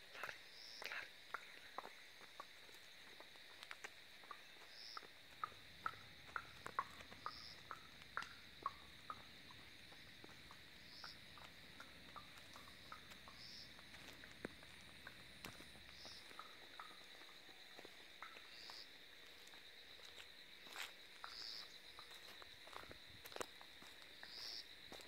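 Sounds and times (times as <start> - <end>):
high insect drone: 0.0 - 25.0
footsteps on wet pavement: 0.1 - 25.0.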